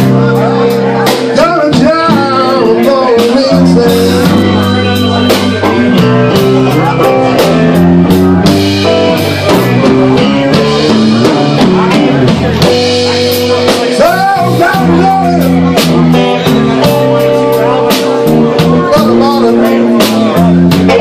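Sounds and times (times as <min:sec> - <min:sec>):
blues band playing: 0:00.0 - 0:21.0
drum hits: 0:00.0 - 0:21.0
electric guitar: 0:00.0 - 0:21.0.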